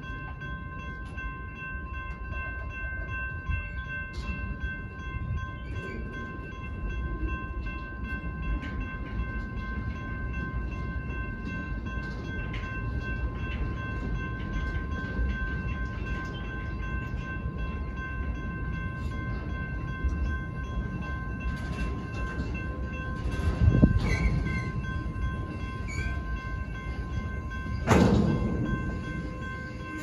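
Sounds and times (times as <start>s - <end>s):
crossing warning bell ringing: 0.0s - 30.0s
freight train rumbling: 0.0s - 30.0s
wheels clicking over rail joints: 0.1s - 30.0s.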